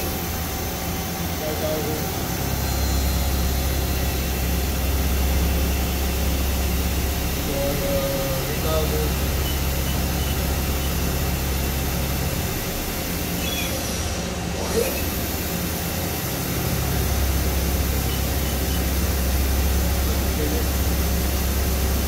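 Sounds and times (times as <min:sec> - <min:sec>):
machine low hum and hiss: 0:00.0 - 0:22.0.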